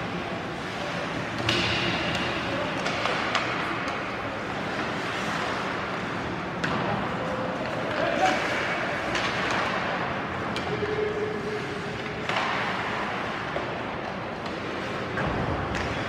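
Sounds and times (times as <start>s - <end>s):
hockey sticks and puck knocking: 1.1s - 10.9s, 11.9s - 16.0s
skates scraping ice: 2.2s - 16.0s.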